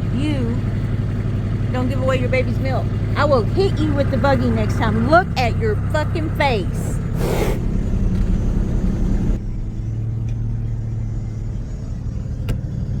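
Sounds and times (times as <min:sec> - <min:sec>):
buggy engine running: 0:00.0 - 0:13.0.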